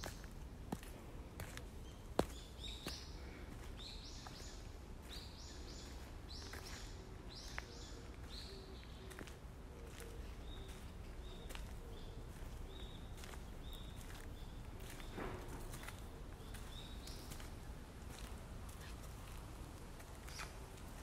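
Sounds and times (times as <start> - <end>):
birds chirping: 0.0 - 19.4, 20.0 - 21.0.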